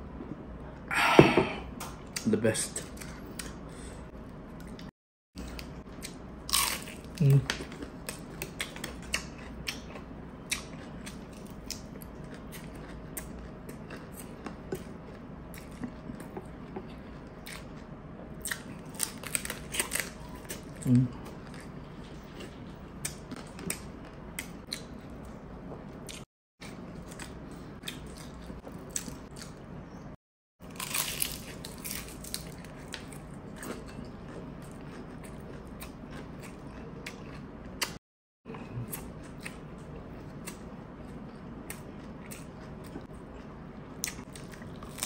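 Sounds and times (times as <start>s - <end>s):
person chewing food: 4.5s - 29.6s, 30.7s - 45.0s.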